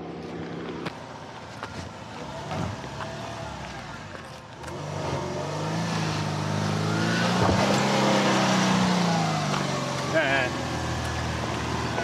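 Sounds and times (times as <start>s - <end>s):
car engine at raised revs: 0.0s - 12.0s.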